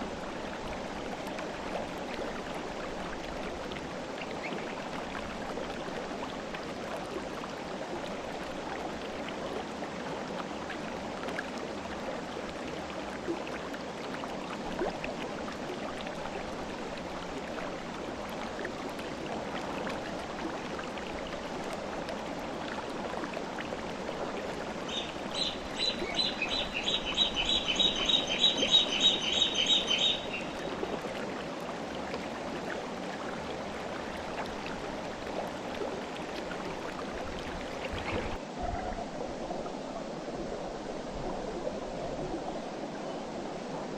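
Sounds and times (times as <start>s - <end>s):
river water flowing: 0.0s - 43.9s.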